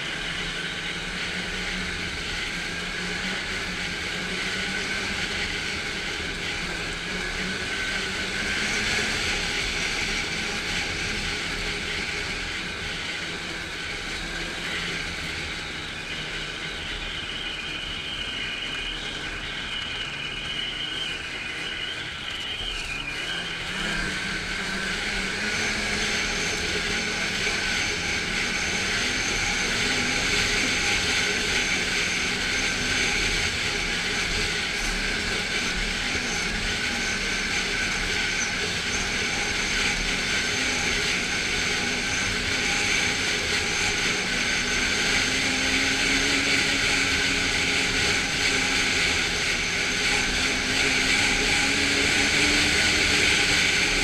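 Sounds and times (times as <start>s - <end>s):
snowmobile engine droning: 0.0s - 54.0s.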